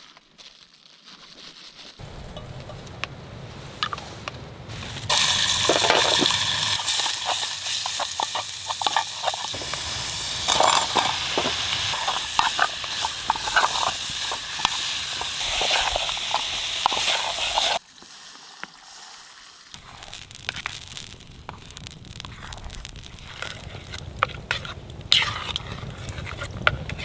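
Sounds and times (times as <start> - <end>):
food sizzling in a pot: 2.0 - 27.0.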